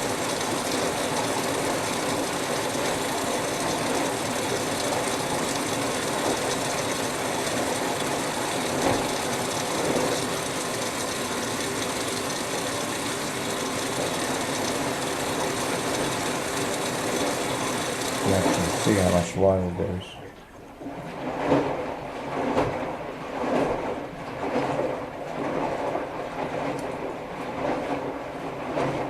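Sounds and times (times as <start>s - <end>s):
washing machine filling with water: 0.0s - 19.8s, 20.4s - 29.0s.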